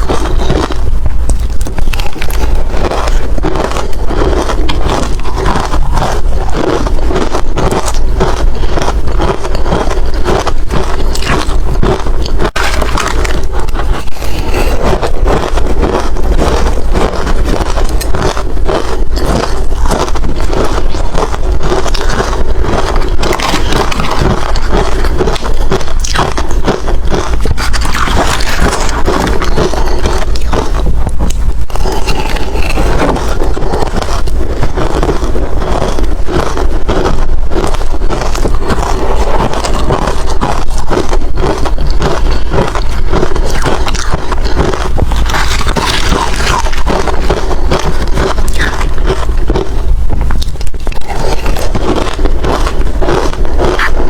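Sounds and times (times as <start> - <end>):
ice crunched between teeth: 0.0 - 54.0.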